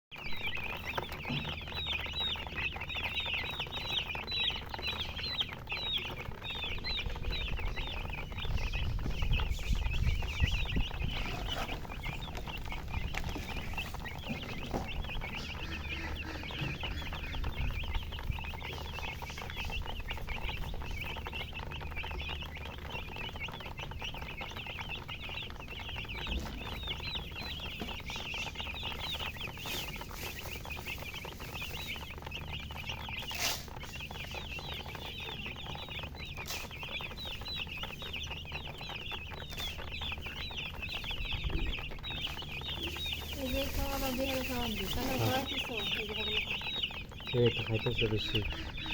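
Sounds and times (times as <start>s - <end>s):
baby chicks peeping: 0.1s - 48.9s.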